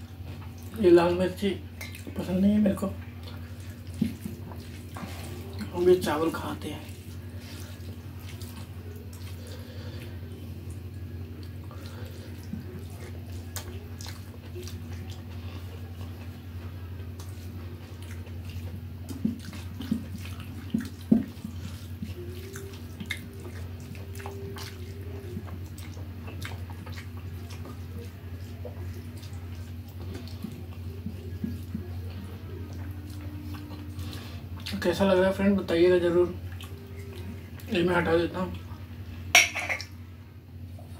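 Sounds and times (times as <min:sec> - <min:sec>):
steady low hum: 0:00.0 - 0:40.9
chewing: 0:01.8 - 0:05.8, 0:06.8 - 0:35.0, 0:36.3 - 0:37.8.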